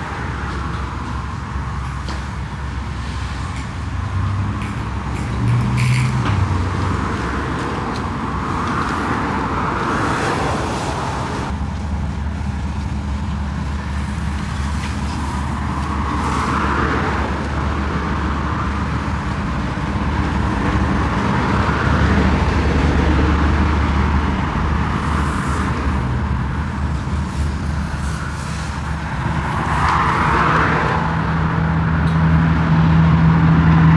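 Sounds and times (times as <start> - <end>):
vehicle low hum: 0.0 - 33.9.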